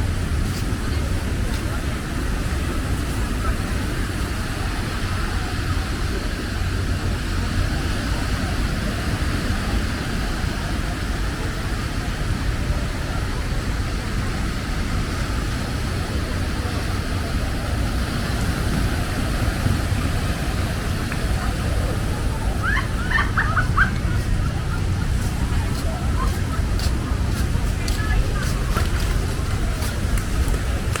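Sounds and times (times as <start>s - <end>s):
beach surf: 0.0s - 31.0s
wind rumbling on microphone: 0.0s - 31.0s.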